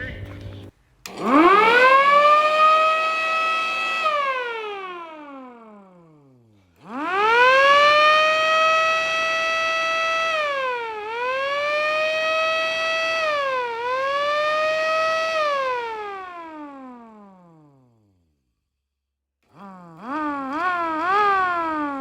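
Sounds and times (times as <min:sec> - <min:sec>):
siren winding up and down: 0:01.1 - 0:18.2, 0:19.5 - 0:22.0.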